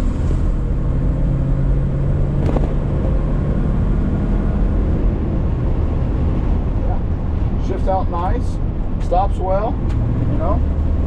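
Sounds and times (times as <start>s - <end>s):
road rumble: 0.0s - 11.0s.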